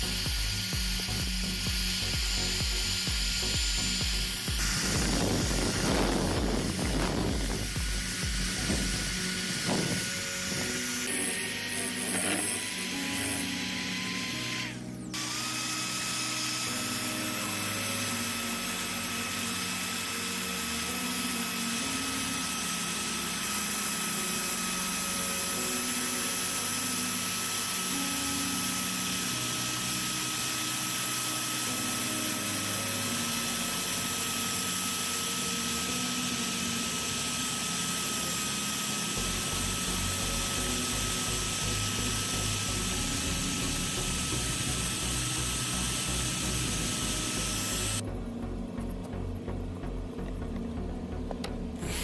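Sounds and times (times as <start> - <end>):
drill wire brush scouring metal: 0.0 - 48.0, 51.8 - 52.0.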